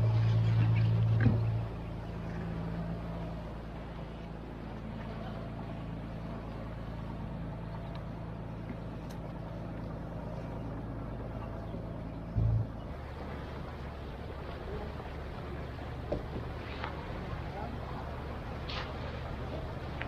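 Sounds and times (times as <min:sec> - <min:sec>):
low engine drone: 0:00.0 - 0:20.0.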